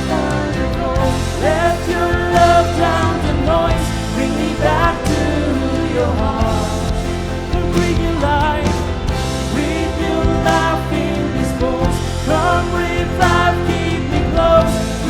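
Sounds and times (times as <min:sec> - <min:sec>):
instrumental backing: 0:00.0 - 0:15.0
person singing worship song: 0:00.0 - 0:15.0.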